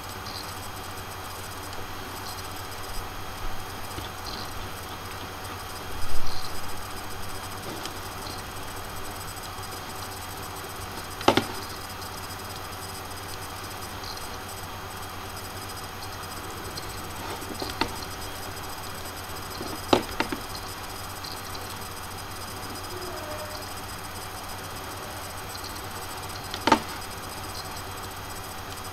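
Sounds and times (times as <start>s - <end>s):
microphone hiss and hum: 0.0s - 28.9s.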